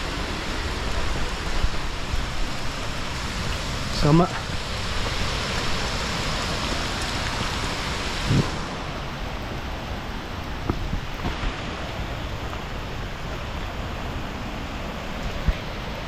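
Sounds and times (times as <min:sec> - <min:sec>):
rushing rain: 0:00.0 - 0:16.0.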